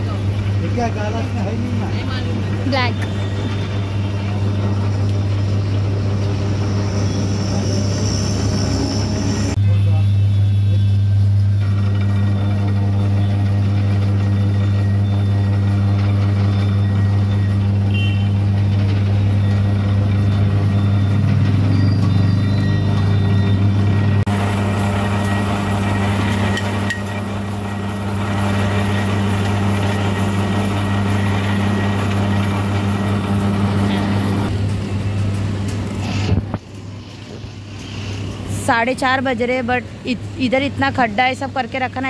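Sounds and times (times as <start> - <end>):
street traffic noise: 0.0 - 42.0
vehicle engine humming: 0.0 - 42.0.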